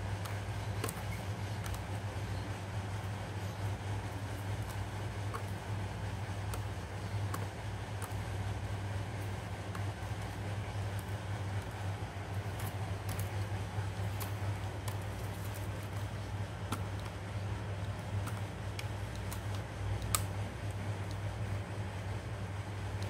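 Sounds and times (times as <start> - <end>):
steady low hum: 0.0 - 23.0
plastic laptop parts clicking: 0.1 - 2.4, 3.0 - 11.8, 12.4 - 21.3.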